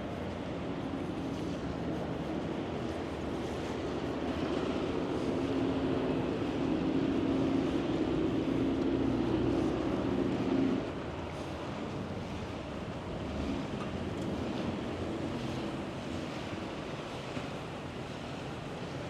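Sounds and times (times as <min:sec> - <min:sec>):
engine hum: 0:00.0 - 0:17.6
wind and water noise: 0:00.0 - 0:19.0.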